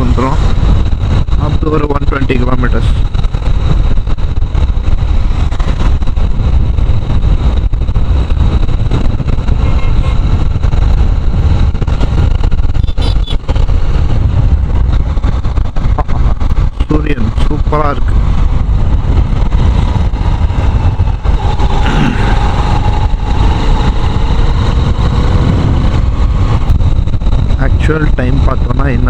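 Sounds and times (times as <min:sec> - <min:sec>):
wind rushing on microphone: 0:00.0 - 0:29.0
motorcycle engine: 0:02.9 - 0:27.8.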